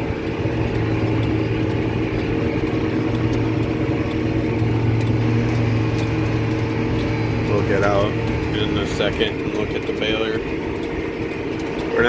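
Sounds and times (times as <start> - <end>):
light ticks: 0.0 - 12.0
tractor engine running under load: 0.0 - 12.0.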